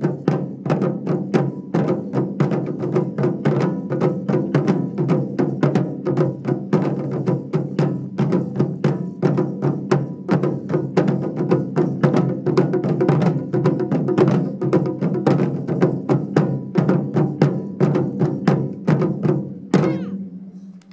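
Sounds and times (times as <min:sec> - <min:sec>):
taiko drums in driving rhythm: 0:00.0 - 0:20.2.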